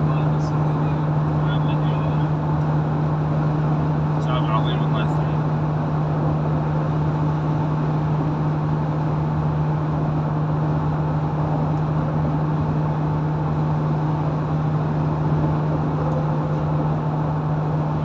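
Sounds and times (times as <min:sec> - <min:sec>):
car engine and road drone: 0:00.0 - 0:18.0
constant low hum: 0:00.0 - 0:18.0.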